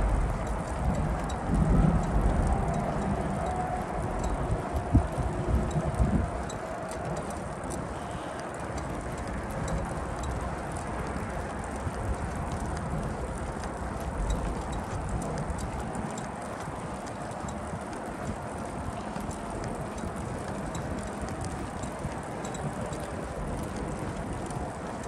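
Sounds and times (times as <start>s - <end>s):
steady rushing street noise: 0.0s - 25.0s.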